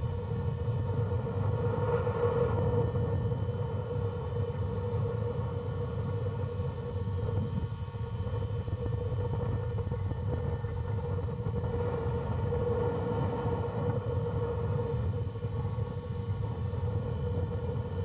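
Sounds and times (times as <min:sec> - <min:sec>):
mid-pitched whine: 0:00.0 - 0:18.0
wind buffeting microphone: 0:00.0 - 0:18.0.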